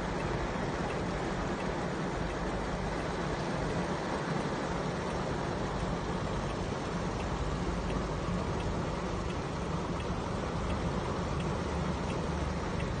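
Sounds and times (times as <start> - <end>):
heavy rain on a car roof: 0.0 - 13.0.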